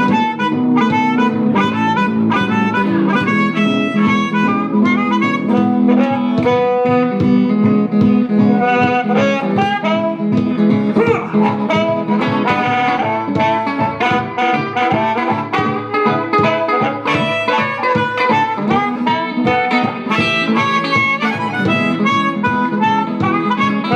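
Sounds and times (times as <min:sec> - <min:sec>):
guitar picking quick runs: 0:00.0 - 0:23.9
harmonica playing: 0:00.0 - 0:23.9.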